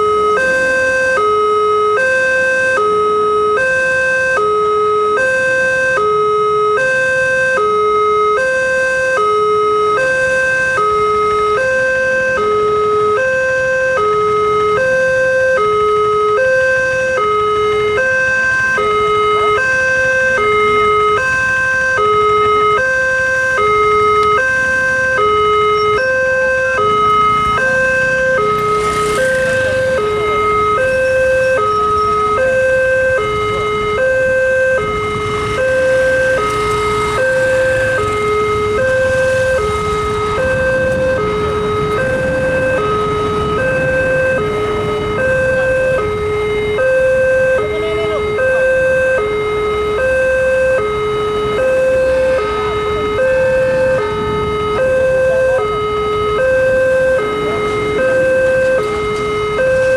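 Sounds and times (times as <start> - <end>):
two-tone crossing alarm chime: 0.0 - 59.9.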